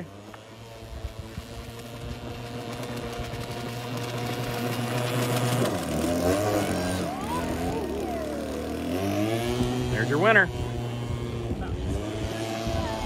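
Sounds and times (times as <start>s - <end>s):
rc boat engine running at high pitch: 0.0s - 13.0s.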